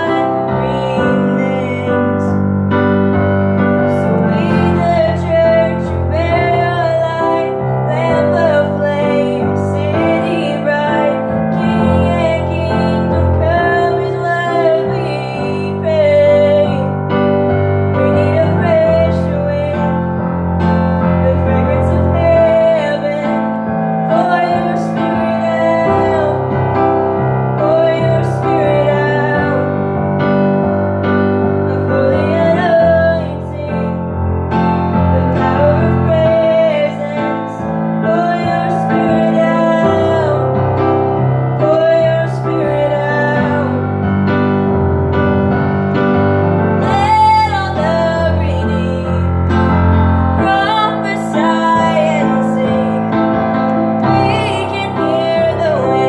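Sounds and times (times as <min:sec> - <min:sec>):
woman singing with vibrato: 0:00.0 - 0:02.5, 0:03.7 - 0:20.1, 0:21.0 - 0:30.6, 0:31.4 - 0:34.1, 0:35.0 - 0:44.2, 0:46.7 - 0:56.0
digital piano chords: 0:00.0 - 0:56.0.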